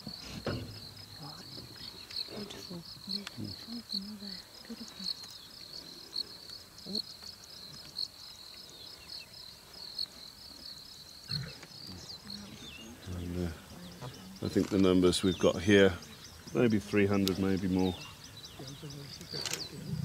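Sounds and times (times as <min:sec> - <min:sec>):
insect trilling: 0:00.0 - 0:20.0.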